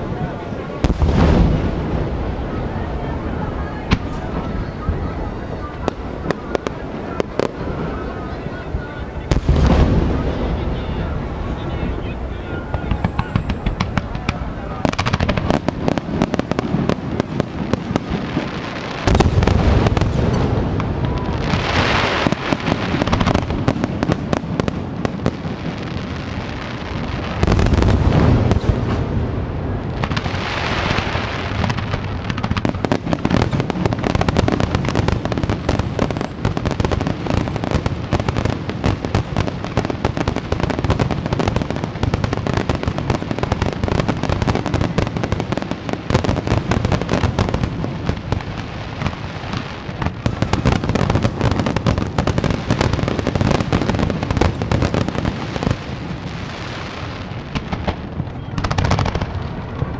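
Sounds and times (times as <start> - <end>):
fireworks booms and crackles: 0.0 - 59.9.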